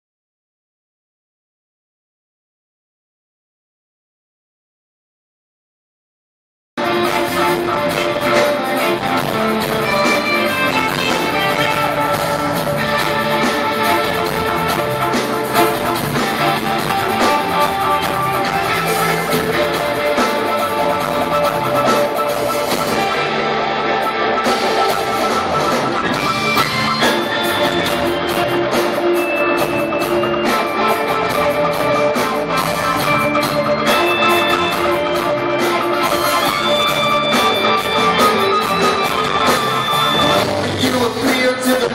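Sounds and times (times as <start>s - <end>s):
rock band playing live: 6.8s - 41.9s.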